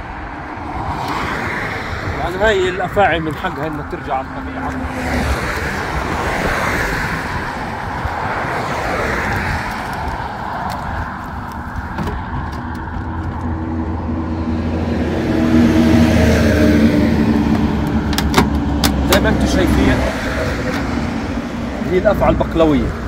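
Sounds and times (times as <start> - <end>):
engine hum: 0.0 - 23.0
highway traffic rushing: 0.0 - 23.0.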